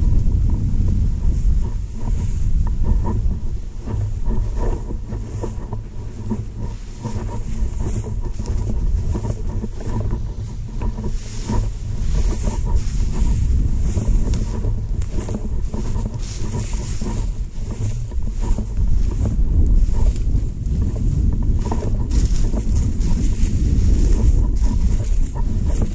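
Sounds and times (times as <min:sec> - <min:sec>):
legs swishing through dry grass: 0:00.0 - 0:25.9
wind buffeting microphone: 0:00.0 - 0:25.9.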